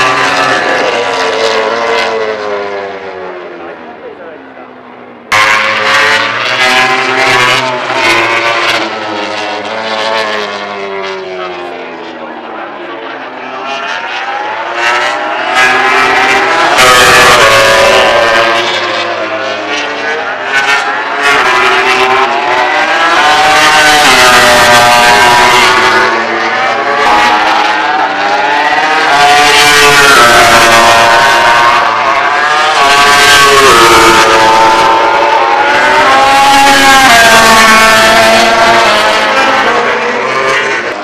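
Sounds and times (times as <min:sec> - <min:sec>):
racing motorcycles passing: 0:05.3 - 0:41.0.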